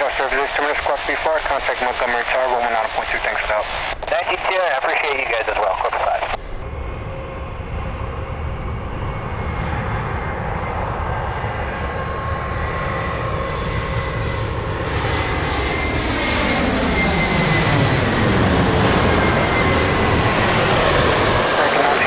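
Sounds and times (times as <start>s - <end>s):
jet airliner engines whining: 0.0s - 22.0s.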